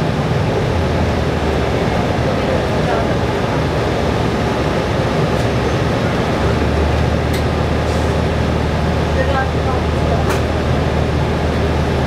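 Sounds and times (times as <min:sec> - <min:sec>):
bus drivetrain and road noise: 0:00.0 - 0:12.0.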